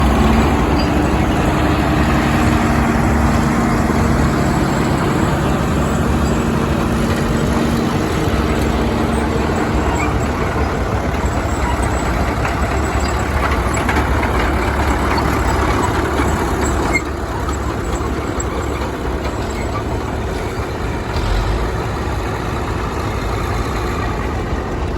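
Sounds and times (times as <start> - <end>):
heavy machine engines rumbling: 0.0 - 24.9.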